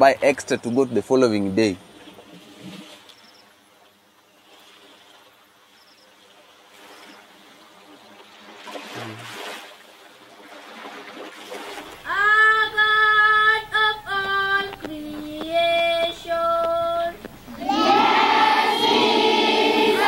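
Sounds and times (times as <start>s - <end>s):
water trickling and lapping: 0.0s - 17.7s.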